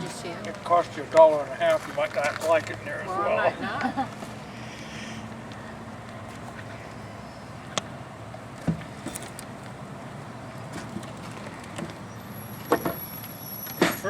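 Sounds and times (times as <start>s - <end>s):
steady background hum: 0.0s - 13.6s.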